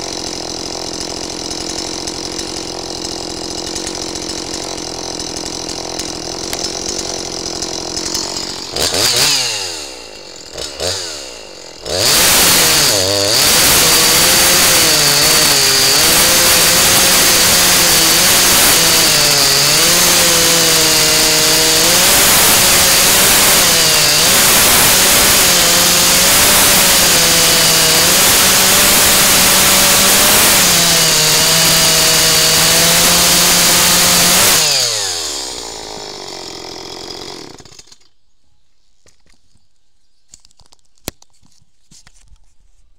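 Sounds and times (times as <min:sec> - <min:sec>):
chainsaw revving and cutting wood: 0:00.0 - 0:38.2.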